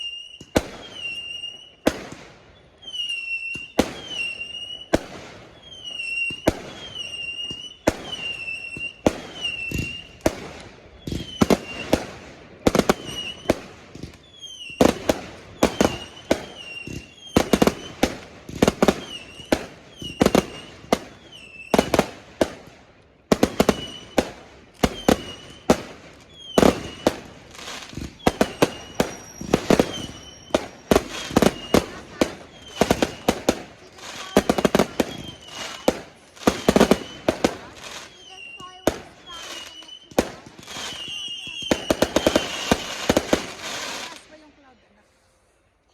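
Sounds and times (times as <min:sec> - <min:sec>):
fireworks whistle: 0:00.0 - 0:22.6, 0:23.3 - 0:44.6
fireworks bangs: 0:00.0 - 0:44.8.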